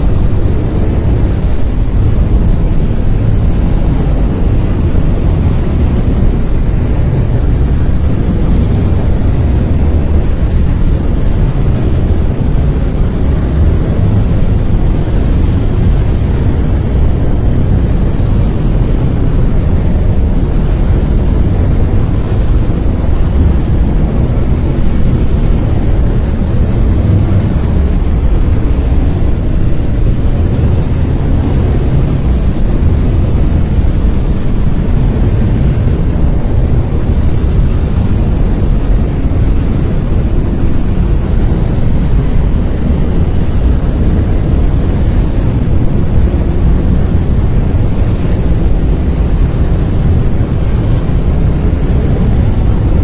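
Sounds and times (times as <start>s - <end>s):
brown noise rumbling hiss: 0.0s - 53.0s.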